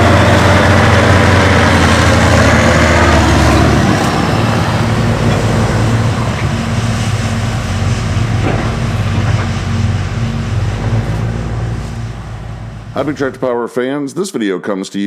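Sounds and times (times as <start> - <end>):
diesel farm machinery running: 0.0 - 13.6.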